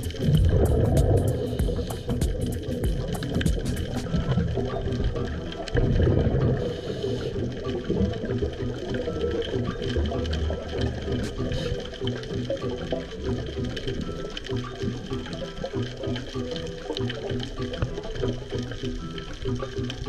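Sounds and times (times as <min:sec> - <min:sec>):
underwater bubbles gurgling: 0:00.0 - 0:20.0.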